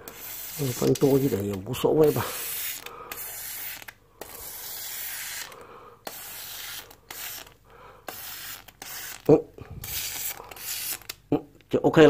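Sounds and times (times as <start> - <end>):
aerosol can spraying: 0.1 - 11.1.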